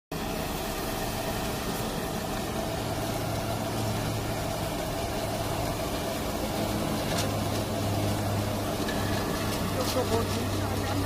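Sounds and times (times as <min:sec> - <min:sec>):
ride-on sweeper machine hum: 0:00.1 - 0:11.0.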